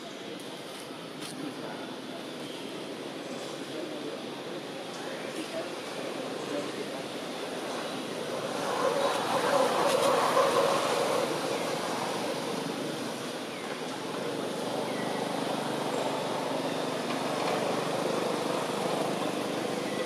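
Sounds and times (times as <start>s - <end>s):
distant road traffic hum: 0.0s - 20.0s.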